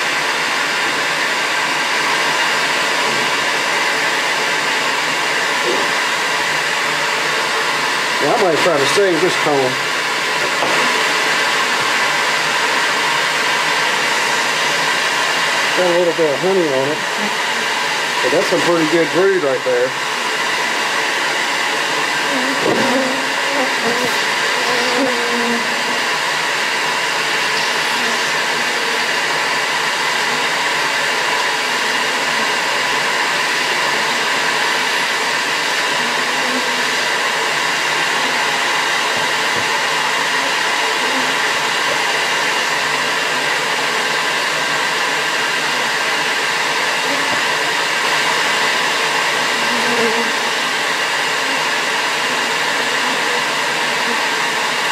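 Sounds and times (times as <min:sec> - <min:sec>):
vacuum motor whine and air rush: 0:00.0 - 0:54.9.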